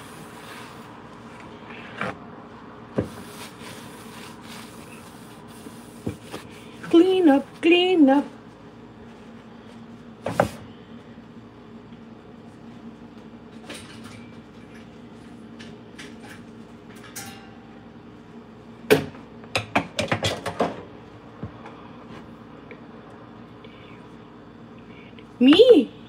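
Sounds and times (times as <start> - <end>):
steady low hum: 0.0 - 20.0, 20.6 - 26.0.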